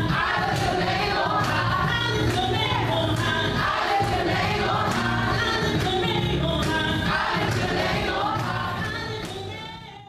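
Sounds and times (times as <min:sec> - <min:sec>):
choir singing gospel music: 0:00.0 - 0:09.7.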